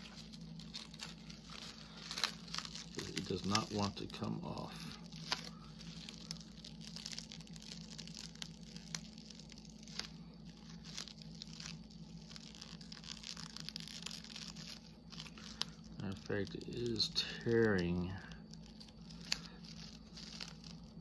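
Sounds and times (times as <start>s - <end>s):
cling film crinkling: 0.0s - 21.0s
plastic film tearing: 0.0s - 21.0s.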